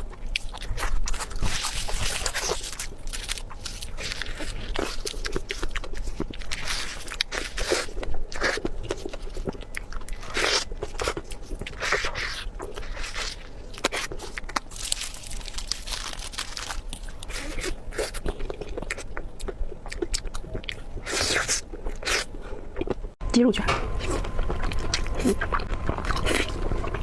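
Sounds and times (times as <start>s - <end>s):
chewing and crunching food: 0.0s - 23.2s, 23.9s - 27.0s.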